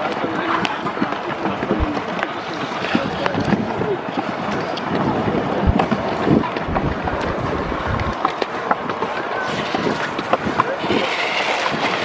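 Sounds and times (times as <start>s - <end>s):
scooter wheels rolling on concrete: 0.0s - 12.0s
wind buffeting microphone: 0.0s - 12.0s.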